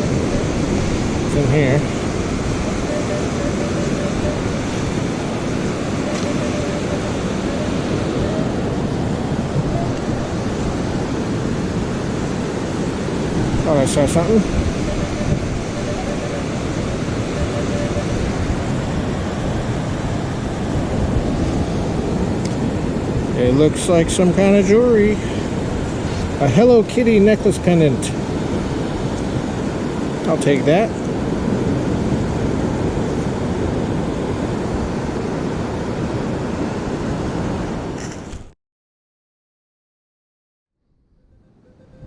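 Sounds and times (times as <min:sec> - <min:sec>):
ocean surf: 0:00.0 - 0:38.5
wind noise on microphone: 0:00.0 - 0:38.5, 0:41.0 - 0:42.0.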